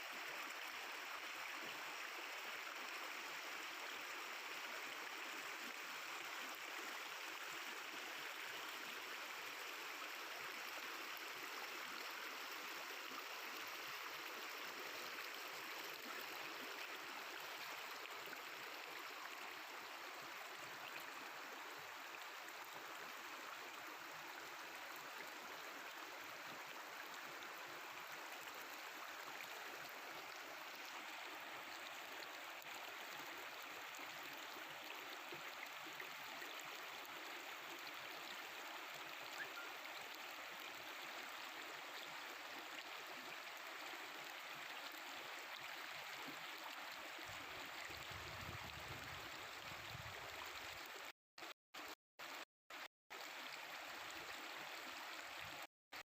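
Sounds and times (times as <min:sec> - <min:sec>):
river water babbling: 0:00.0 - 0:51.1, 0:53.1 - 0:55.6.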